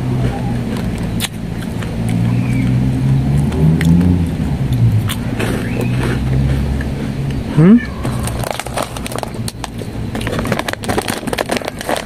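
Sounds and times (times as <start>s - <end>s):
chewing crunches: 0.0s - 12.0s
vehicle engine droning: 0.0s - 12.0s.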